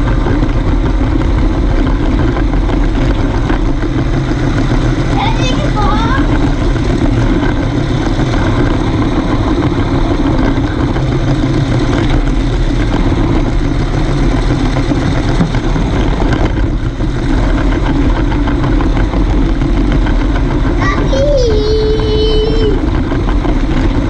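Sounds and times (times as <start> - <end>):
toy train motor and wheels: 0.0 - 24.0.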